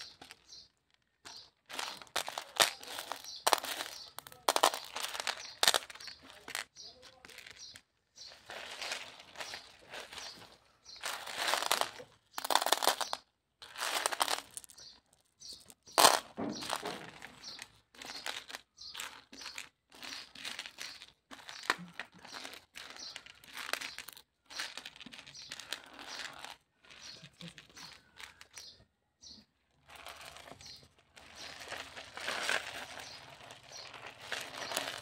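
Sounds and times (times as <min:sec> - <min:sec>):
candies scraping and rattling on plate: 0:00.0 - 0:28.8, 0:29.6 - 0:35.0.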